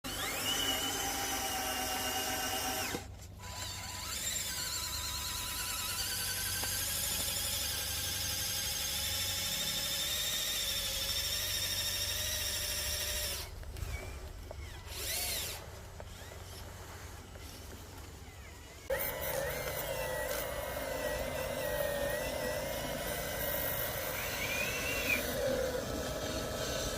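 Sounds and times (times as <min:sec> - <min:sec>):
small electric motors whining: 0:00.1 - 0:26.9.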